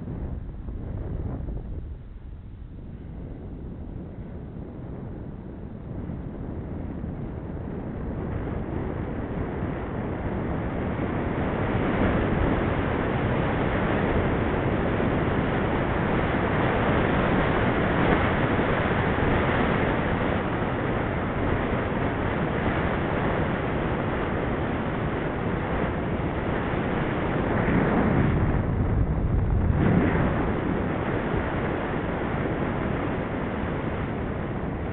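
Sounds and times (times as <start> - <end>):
wind on microphone: 0.0 - 34.9.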